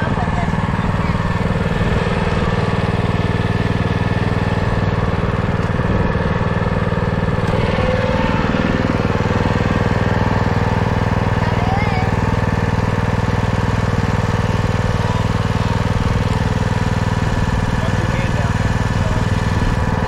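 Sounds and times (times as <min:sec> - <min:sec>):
small gas engine running: 0:00.0 - 0:20.0.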